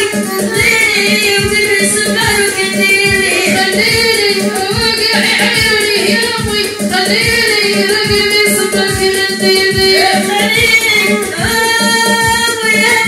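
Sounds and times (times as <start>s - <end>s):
backing track with drum beat: 0.0s - 13.0s
woman singing into microphone: 0.0s - 13.0s.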